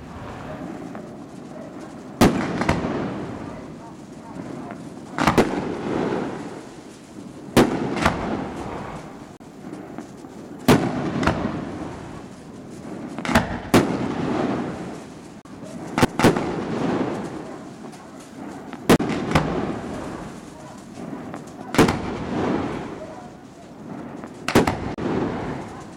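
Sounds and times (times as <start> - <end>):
fireworks bangs: 0.0 - 25.9
fireworks rumble: 0.0 - 25.9.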